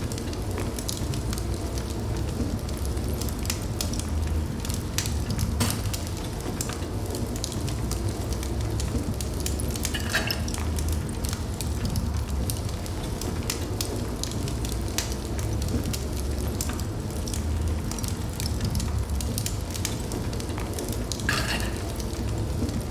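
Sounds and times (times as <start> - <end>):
fire crackling and popping: 0.0 - 22.9
low rumble of flame: 0.0 - 22.9.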